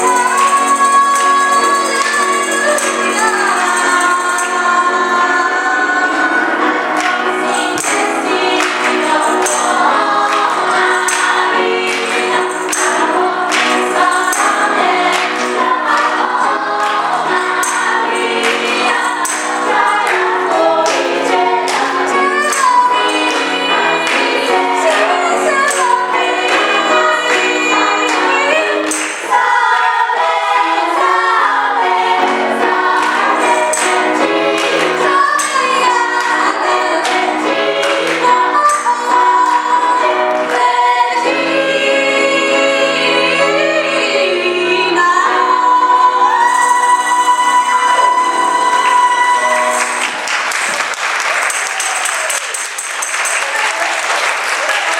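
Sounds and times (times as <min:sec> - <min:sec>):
percussion hits: 0:00.0 - 0:42.4, 0:46.4 - 0:54.9
choir singing in harmony: 0:00.0 - 0:52.3.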